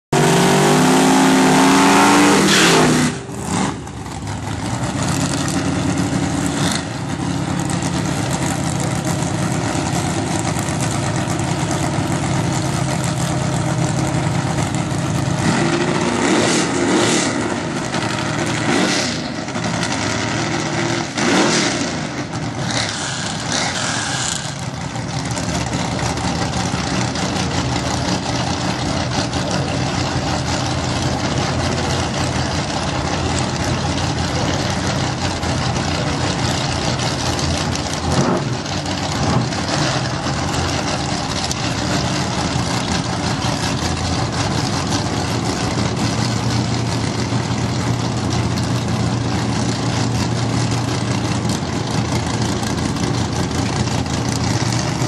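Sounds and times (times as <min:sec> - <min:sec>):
car engine revving and idling: 0:00.1 - 0:55.0.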